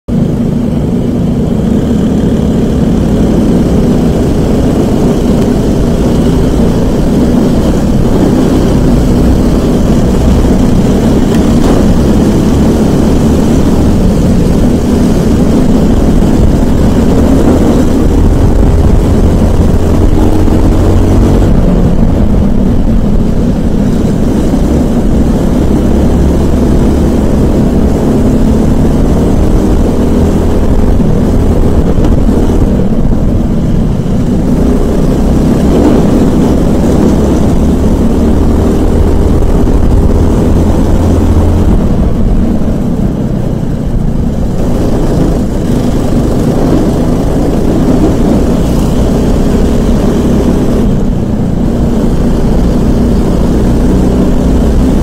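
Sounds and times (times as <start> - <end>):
kart engine revving: 0.2 - 55.0.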